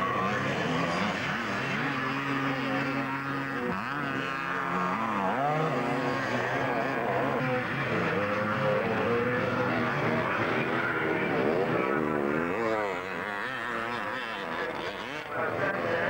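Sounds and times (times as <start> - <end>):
motocross bikes racing: 0.0 - 16.0.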